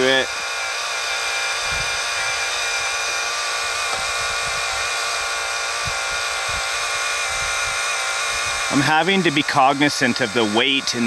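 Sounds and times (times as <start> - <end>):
hydraulic pump whine: 0.0 - 11.0.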